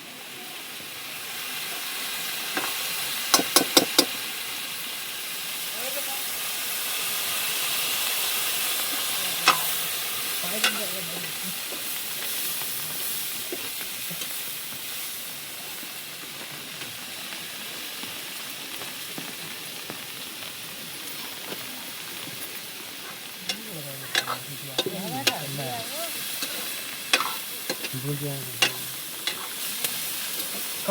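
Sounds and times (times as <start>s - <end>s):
food sizzling in a pan: 0.0s - 30.9s.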